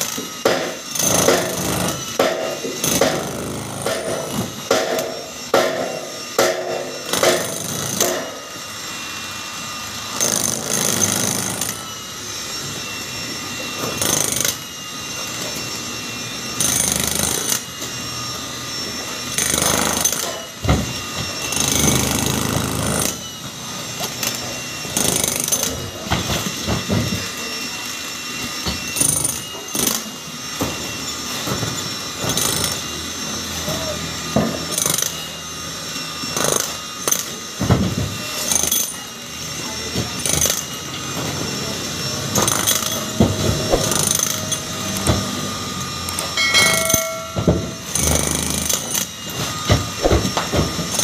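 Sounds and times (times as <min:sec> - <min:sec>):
jackhammer breaking concrete: 0:00.0 - 0:08.4, 0:10.1 - 0:11.9, 0:13.8 - 0:15.8, 0:16.5 - 0:17.9, 0:19.2 - 0:27.5, 0:28.6 - 0:35.4, 0:36.2 - 0:51.0.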